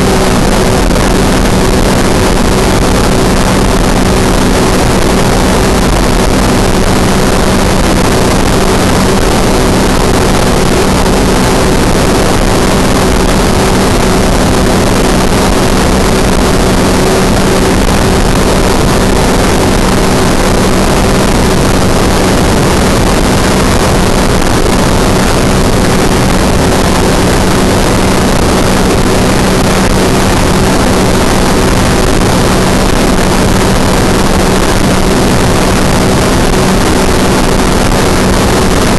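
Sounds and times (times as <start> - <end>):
ultralight aircraft engine drone: 0.0 - 38.9
wind rush over microphone: 0.0 - 38.9.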